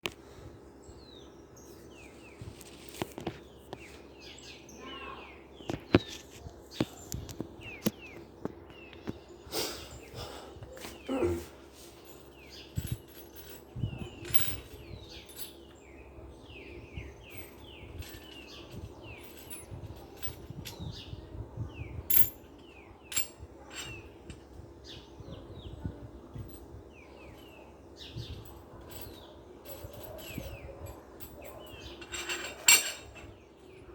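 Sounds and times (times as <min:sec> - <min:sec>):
faint steady hum: 0:00.0 - 0:33.9
small birds chirping: 0:00.0 - 0:33.9.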